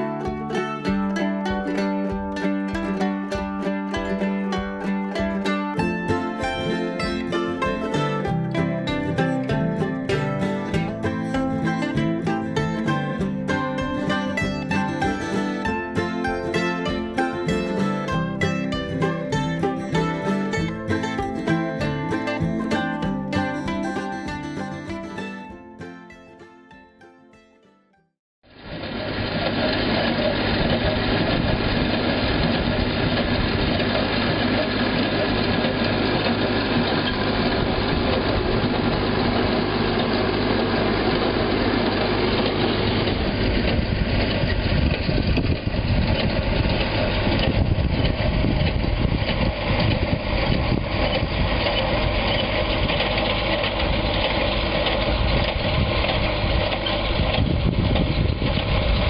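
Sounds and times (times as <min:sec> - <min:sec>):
engine running: 0:00.0 - 0:27.4, 0:28.4 - 0:59.0.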